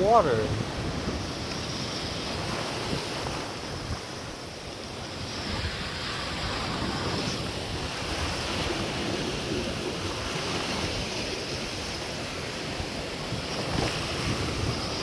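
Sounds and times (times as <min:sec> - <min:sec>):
ocean waves washing onto beach: 0:00.0 - 0:15.0
wind buffeting microphone: 0:00.0 - 0:15.0.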